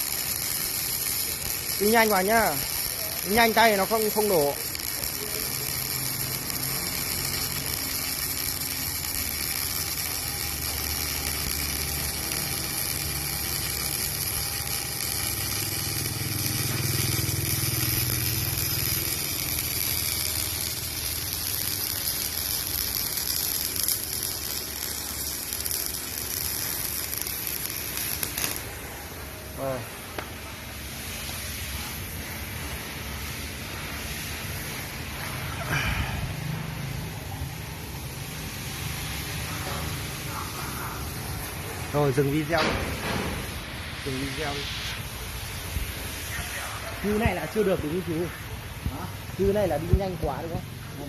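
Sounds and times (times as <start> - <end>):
welding arc crackling and hissing: 0.0 - 51.0.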